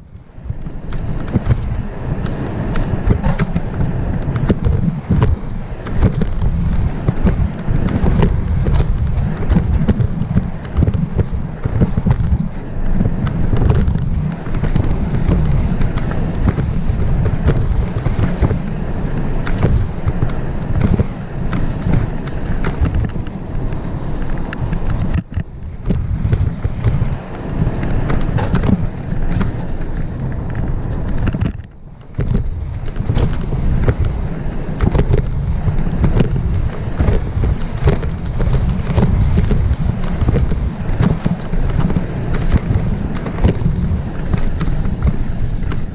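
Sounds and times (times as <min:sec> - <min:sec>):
bike rattling over bumps: 0:00.0 - 0:45.9
bike tyre noise: 0:00.0 - 0:45.9
wind buffeting on microphone: 0:00.0 - 0:45.9.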